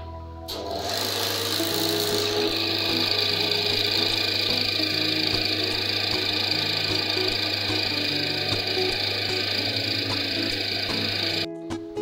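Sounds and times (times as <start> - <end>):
coil-winding machine whining: 0.5 - 11.5.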